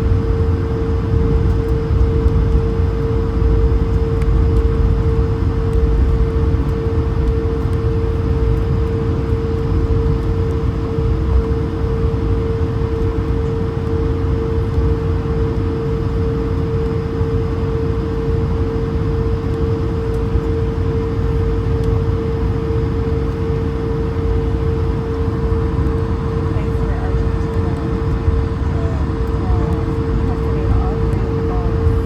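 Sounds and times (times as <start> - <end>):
airliner cabin engine rumble: 0.0 - 32.0
steady hum: 0.0 - 32.0.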